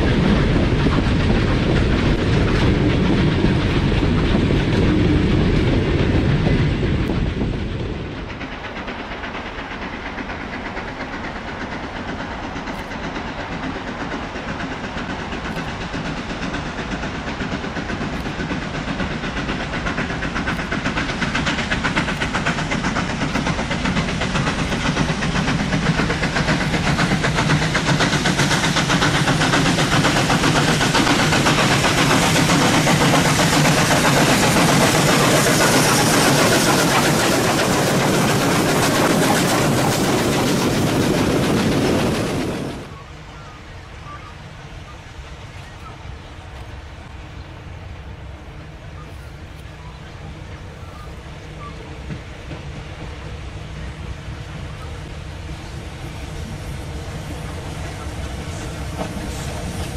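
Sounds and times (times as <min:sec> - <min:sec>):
train rolling along rails: 0:00.0 - 0:59.9.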